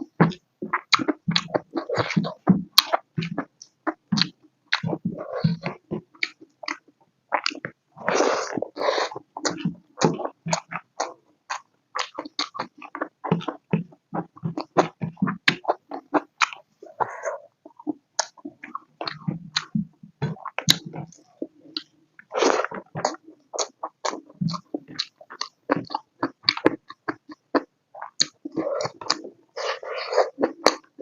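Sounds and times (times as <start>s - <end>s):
chewing and wet mouth sounds: 0.1s - 31.0s.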